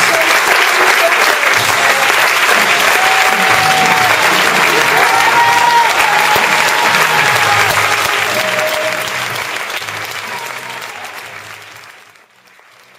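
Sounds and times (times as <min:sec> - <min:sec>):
audience applauding: 0:00.0 - 0:12.9
music playing: 0:00.0 - 0:12.9.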